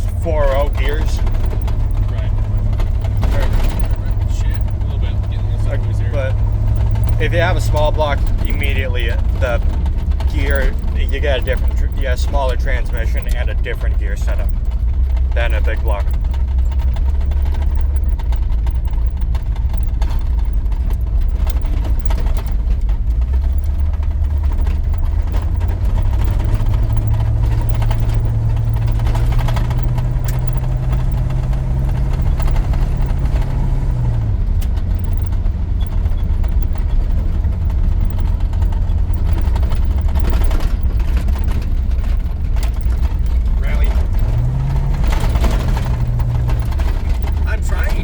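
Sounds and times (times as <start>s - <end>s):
truck engine drone: 0.0s - 48.0s.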